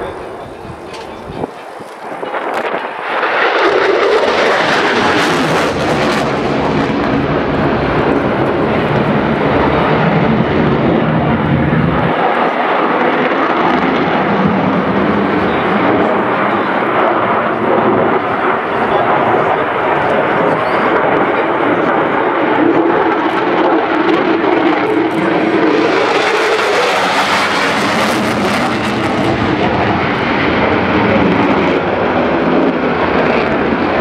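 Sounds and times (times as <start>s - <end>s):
fighter jet engine roar: 0.0s - 34.0s.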